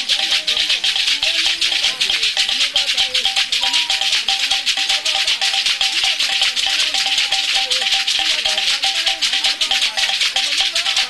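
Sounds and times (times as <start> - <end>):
rattles shaken in fast rhythm: 0.0 - 11.0.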